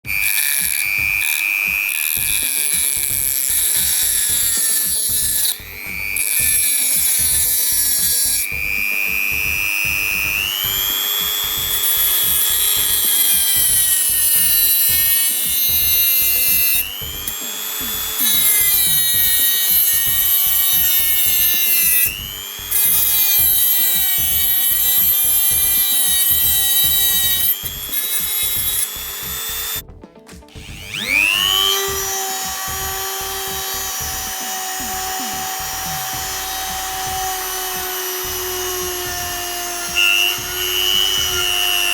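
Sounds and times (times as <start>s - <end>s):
die grinder motor whining: 0.0s - 29.9s, 30.5s - 41.9s.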